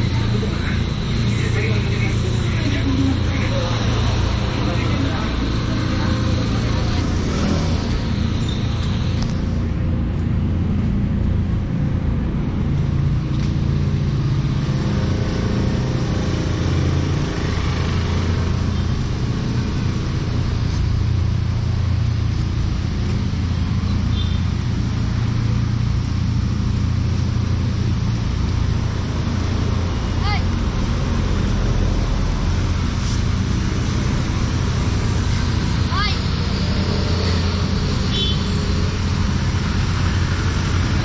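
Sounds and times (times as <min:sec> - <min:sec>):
vehicle engines running: 0:00.0 - 0:41.0.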